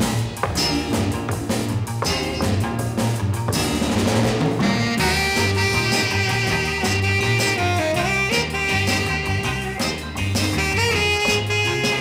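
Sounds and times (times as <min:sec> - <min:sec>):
drum kit beat: 0:00.0 - 0:12.0
swing jazz band with brass: 0:00.0 - 0:12.0.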